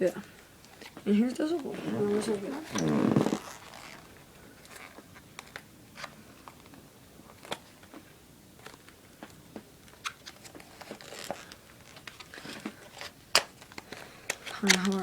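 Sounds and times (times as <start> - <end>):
packaging rustling: 1.8 - 8.0, 8.6 - 15.0.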